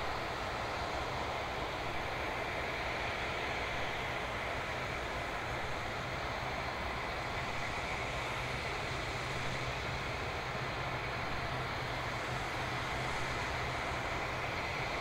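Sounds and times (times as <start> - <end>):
jet turbines whining: 0.0 - 15.0.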